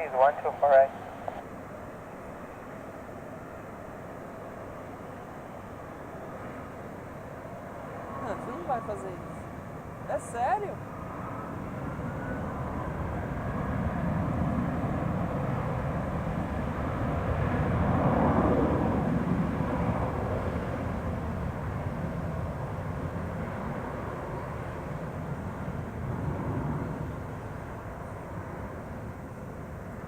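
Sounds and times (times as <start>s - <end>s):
jet airliner passing: 0.0s - 30.0s.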